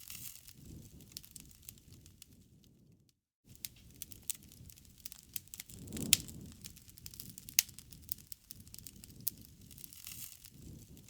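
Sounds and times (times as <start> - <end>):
low rumble of burning: 0.0 - 11.0
wood fire snaps and pops: 0.0 - 11.0.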